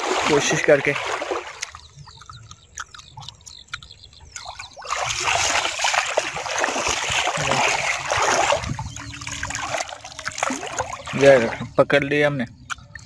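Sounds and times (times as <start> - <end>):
feet splashing through shallow water: 0.0 - 11.7.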